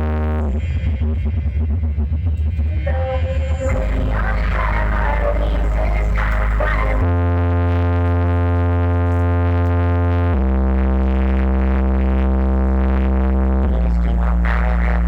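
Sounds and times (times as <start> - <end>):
electronic music with deep bass: 0.0 - 15.0.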